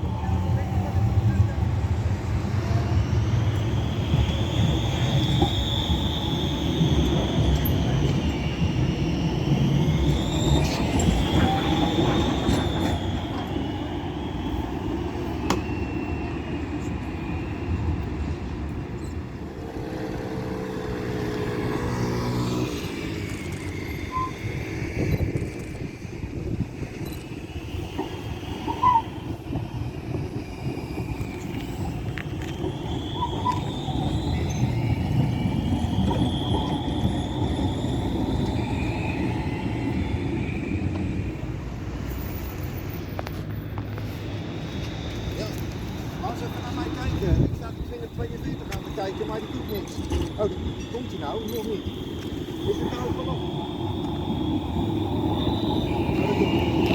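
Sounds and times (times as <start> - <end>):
high wheel squeal: 0.0 - 56.9
pitched whine: 0.0 - 56.9
tram rumble on rails: 0.0 - 56.9.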